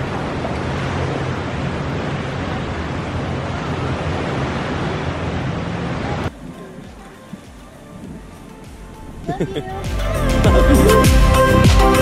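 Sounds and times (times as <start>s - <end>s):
surf: 0.0s - 12.0s.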